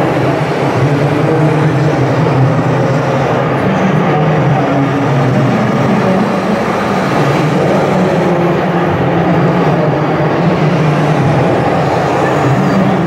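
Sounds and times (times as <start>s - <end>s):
model truck engine drone: 0.0s - 13.0s.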